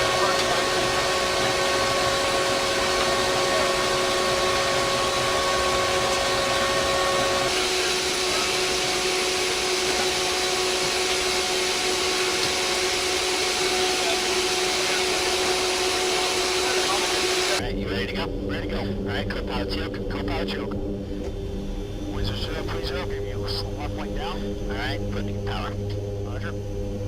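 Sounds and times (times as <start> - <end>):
turboprop engines running: 0.0 - 27.0.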